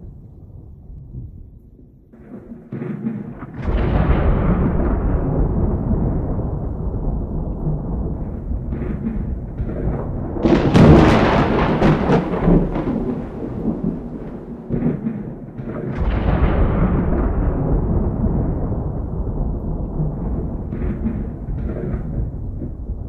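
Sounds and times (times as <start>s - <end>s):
rolling thunder rumble: 0.0s - 23.0s
sharp crackling thunderclap: 0.0s - 23.0s.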